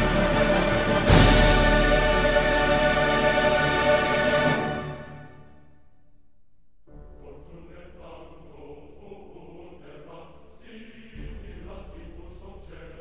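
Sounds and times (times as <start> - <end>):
chant-like choral voices: 0.0 - 5.4, 7.0 - 13.0.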